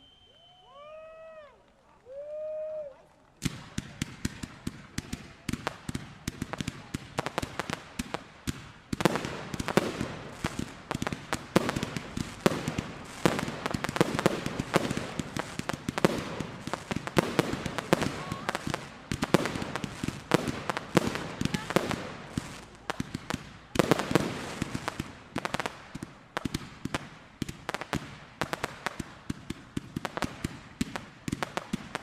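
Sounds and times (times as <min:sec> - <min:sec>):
fireworks cracks and bangs: 0:03.2 - 0:32.0.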